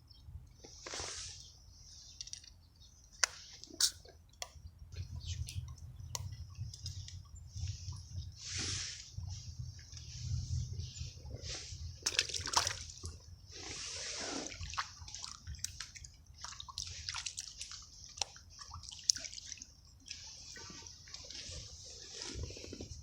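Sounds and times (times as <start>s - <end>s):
water splashing and sloshing: 2.0s - 23.0s.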